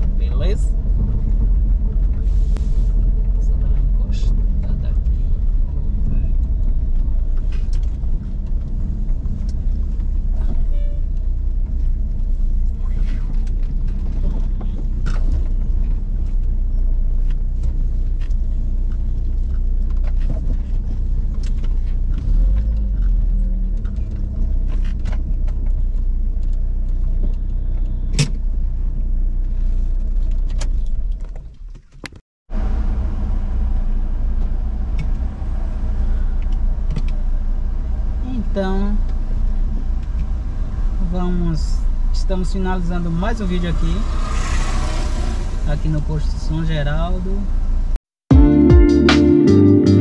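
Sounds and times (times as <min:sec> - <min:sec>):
car engine and road rumble: 0:00.0 - 0:48.5.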